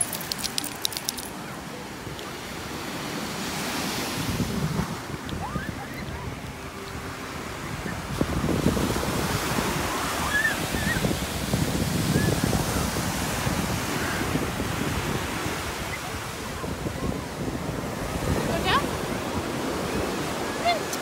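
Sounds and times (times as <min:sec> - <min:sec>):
ocean surf washing ashore: 0:00.0 - 0:21.0
wind buffeting microphone: 0:04.0 - 0:21.0.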